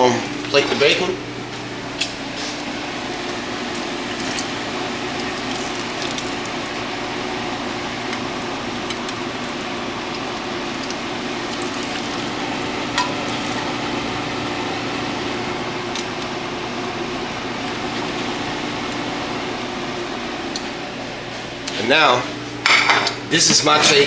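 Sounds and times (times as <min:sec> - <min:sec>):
bacon sizzling in a frying pan: 0:00.0 - 0:24.0.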